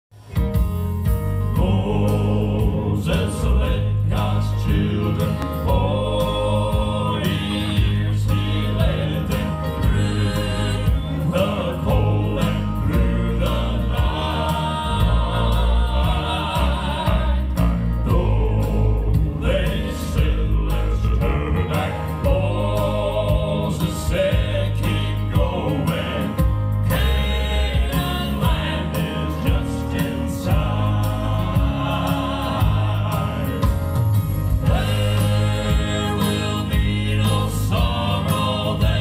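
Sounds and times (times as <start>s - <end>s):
steady bass: 0.2s - 39.0s
male quartet singing gospel: 1.4s - 39.0s.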